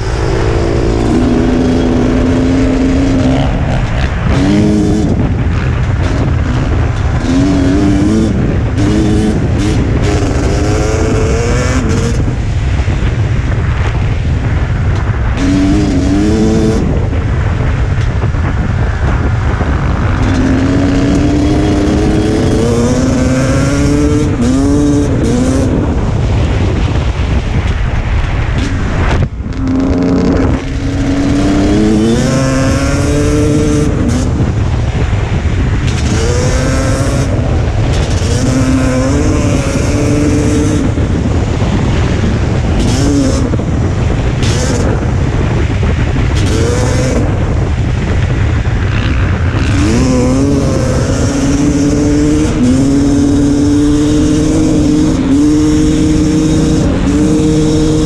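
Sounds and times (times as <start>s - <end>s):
dirt bike engine revving: 0.0s - 12.4s, 15.3s - 17.8s, 19.0s - 26.4s, 28.6s - 58.0s
wind rumble on microphone: 0.0s - 58.0s.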